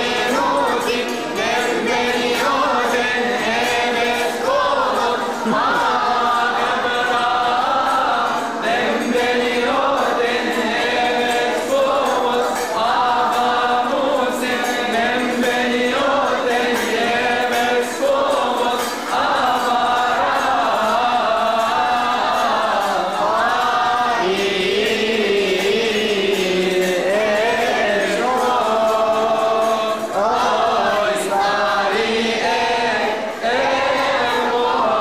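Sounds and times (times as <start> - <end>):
group singing a hymn: 0.0 - 35.0.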